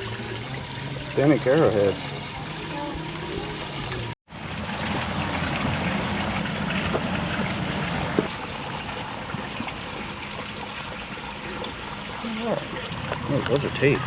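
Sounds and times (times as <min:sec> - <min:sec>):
water running through sluice: 0:00.0 - 0:14.0.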